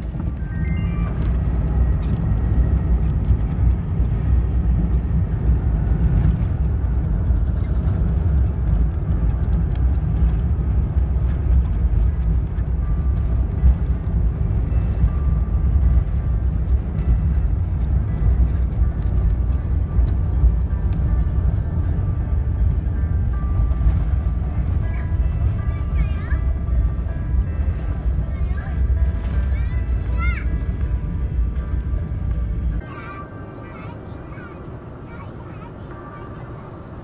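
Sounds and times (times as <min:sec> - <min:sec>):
airliner landing rumble in cabin: 0:00.0 - 0:37.0.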